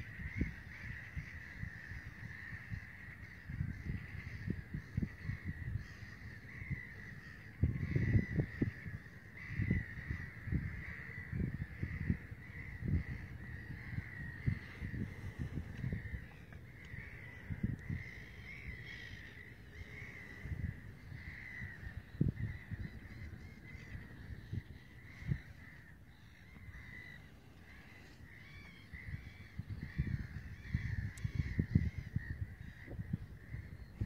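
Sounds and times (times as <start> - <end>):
birds calling: 0.0 - 34.0
low gusty rumbles and thumps: 0.2 - 34.0.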